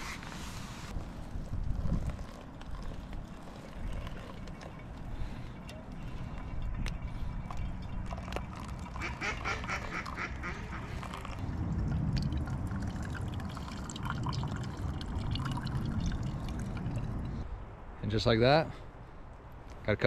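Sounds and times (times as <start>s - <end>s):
hot water pouring: 0.0s - 17.4s.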